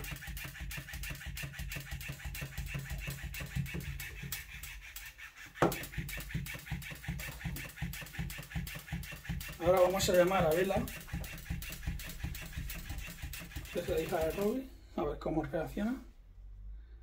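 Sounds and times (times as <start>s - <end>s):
toy tail slapping floor: 0.0s - 14.6s.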